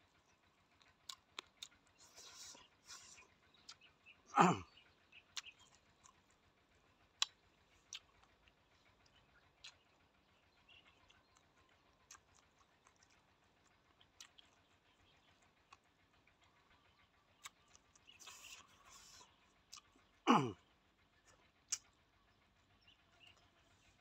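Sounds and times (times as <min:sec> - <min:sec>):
mouth chewing clicks and smacks: 0:00.1 - 0:20.2, 0:21.1 - 0:23.5.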